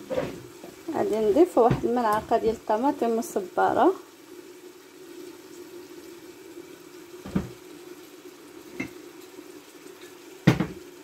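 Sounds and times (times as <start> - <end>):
food sizzling faintly: 0.0 - 11.0.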